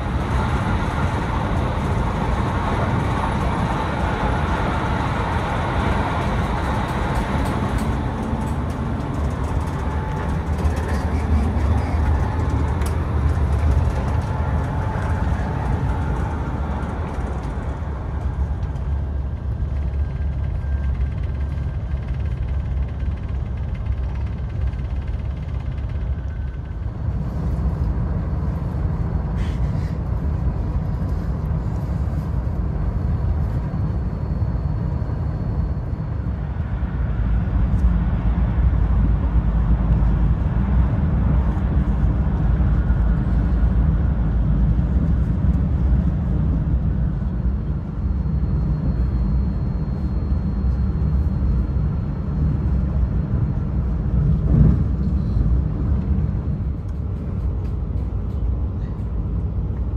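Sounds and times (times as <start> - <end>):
train deep rumble: 0.0 - 59.9.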